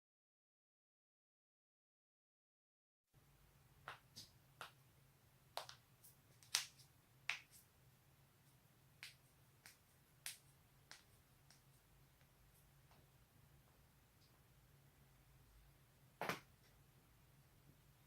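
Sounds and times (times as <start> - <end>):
faint low hum: 3.2 - 18.0.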